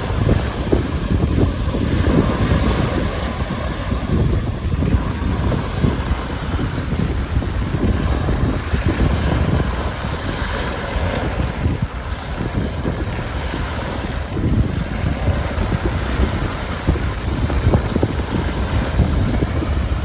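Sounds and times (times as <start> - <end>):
lake waves breaking on shore: 0.0 - 20.0
wind buffeting microphone: 0.0 - 20.0.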